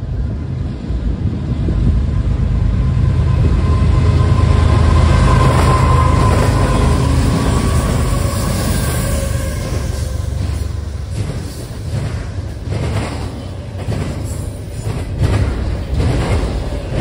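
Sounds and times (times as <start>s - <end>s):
diesel locomotive engines droning: 0.0s - 17.0s
train rolling noise: 0.0s - 17.0s.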